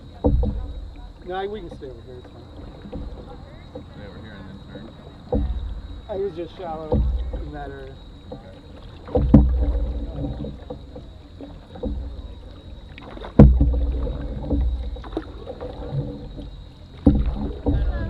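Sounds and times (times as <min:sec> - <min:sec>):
knocks on canoe hull: 0:00.0 - 0:04.0, 0:05.3 - 0:12.4, 0:13.0 - 0:18.0
hollow ringing of hull: 0:00.0 - 0:18.0
paddle in water: 0:00.0 - 0:18.0.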